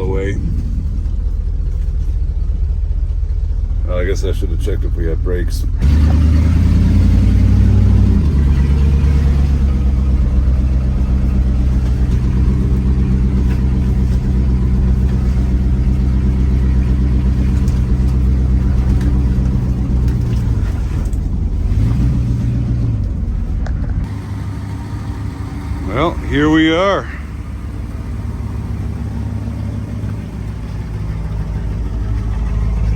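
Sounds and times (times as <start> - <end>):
pickup truck engine running: 0.0 - 32.9.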